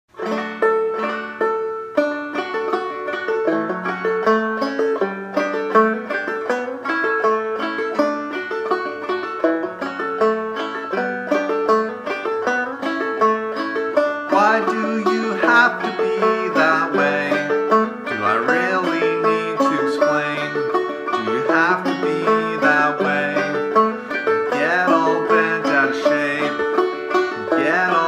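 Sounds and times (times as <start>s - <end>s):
banjo plucking and strumming: 0.1s - 28.0s.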